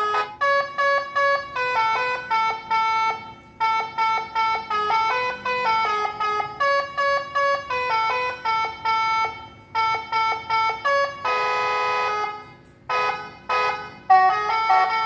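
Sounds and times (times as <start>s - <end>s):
electronic horn melody: 0.0s - 15.0s.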